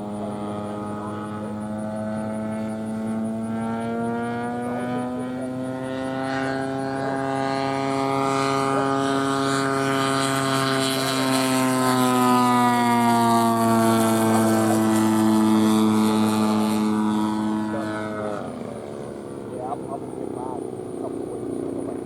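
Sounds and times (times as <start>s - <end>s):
model airplane engine running: 0.0s - 22.0s.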